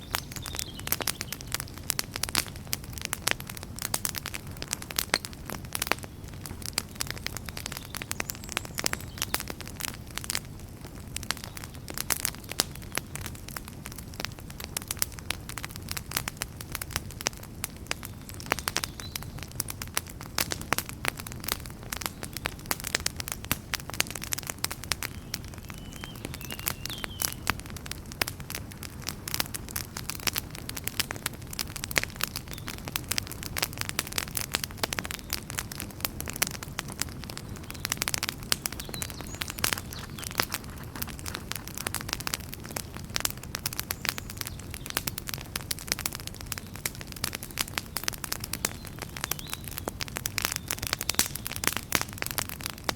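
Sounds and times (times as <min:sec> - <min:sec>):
campfire snaps and pops: 0:00.0 - 0:52.9
low rumble of flames: 0:00.0 - 0:52.9.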